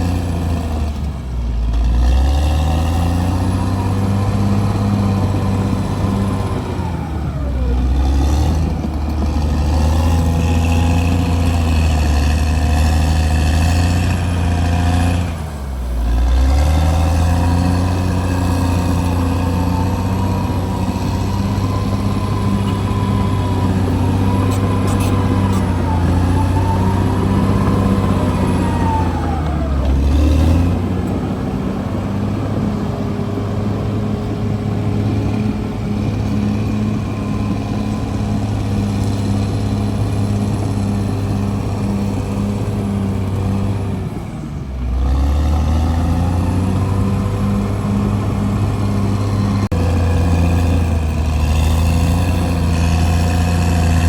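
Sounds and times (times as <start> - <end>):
bulldozer diesel engine lugging: 0.0 - 54.0.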